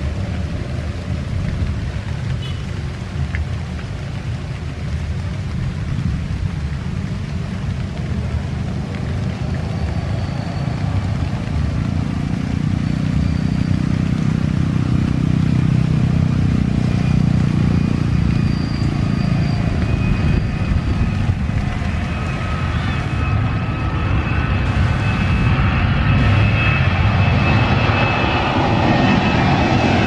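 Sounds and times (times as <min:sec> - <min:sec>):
jet engines roaring: 0:00.0 - 0:30.0
road traffic passing: 0:00.0 - 0:30.0.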